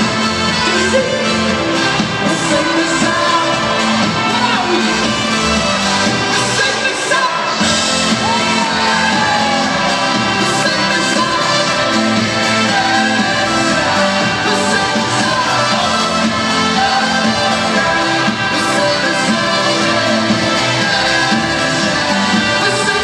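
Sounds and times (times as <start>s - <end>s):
live band playing with singing: 0.0s - 23.0s.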